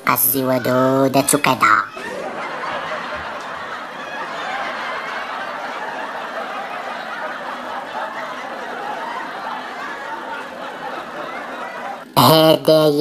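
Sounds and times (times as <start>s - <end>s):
laughter: 0.6s - 12.6s.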